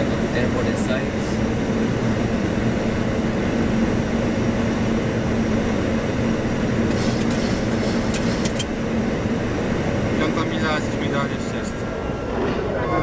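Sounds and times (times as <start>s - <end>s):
airliner engines and rushing air: 0.0s - 13.0s.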